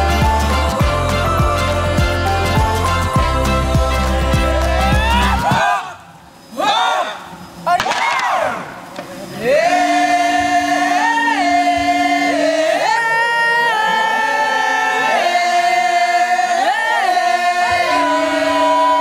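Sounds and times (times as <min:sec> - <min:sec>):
voices chanting held notes: 0:00.0 - 0:19.0.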